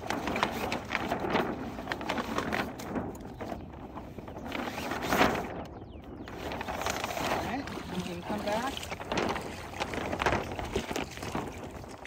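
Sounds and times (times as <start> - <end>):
sailcloth rustling and crinkling: 0.0 - 12.0.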